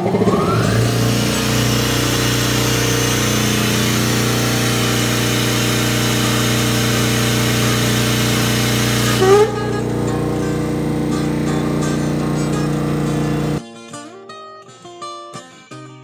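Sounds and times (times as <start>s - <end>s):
air compressor running: 0.0s - 13.6s.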